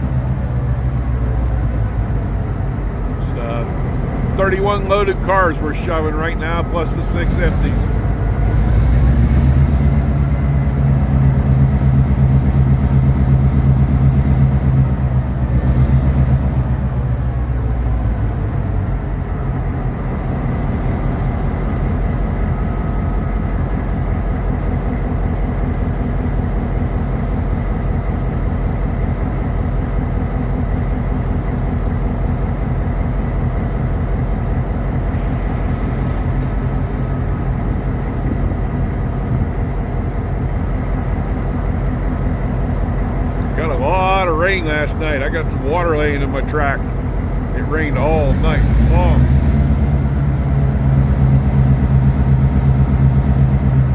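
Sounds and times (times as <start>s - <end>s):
locomotive diesel engine under load: 0.0s - 53.9s.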